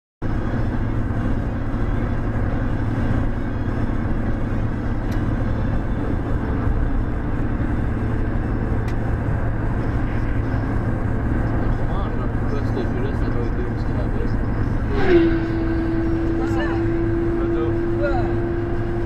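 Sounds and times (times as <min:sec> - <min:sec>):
car road and engine noise: 0:00.2 - 0:19.0.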